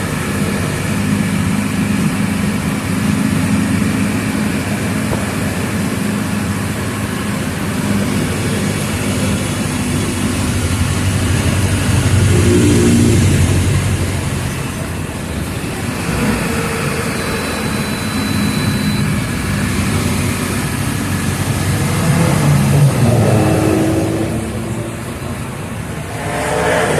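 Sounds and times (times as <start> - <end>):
bus diesel engine running: 0.0 - 26.9.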